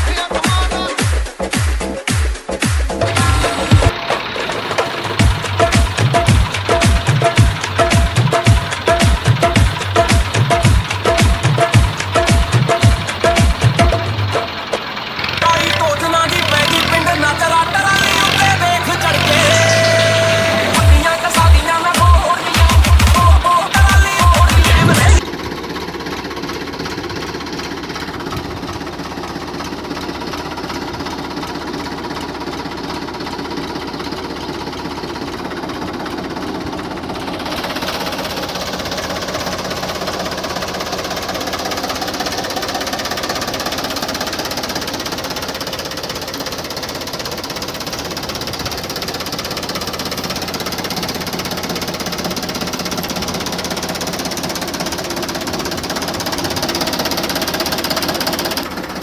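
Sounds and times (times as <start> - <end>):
small engine knocking: 3.0 - 20.0, 20.7 - 59.0.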